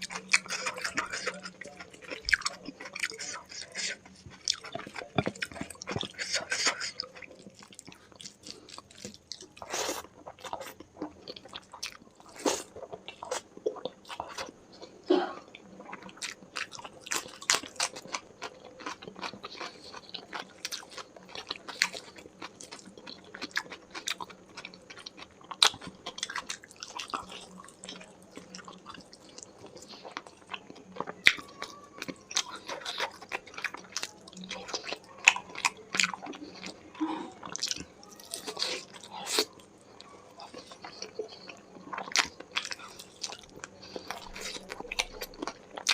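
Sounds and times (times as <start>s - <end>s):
food crunching: 0.0s - 45.9s
person chewing wetly: 0.0s - 45.9s.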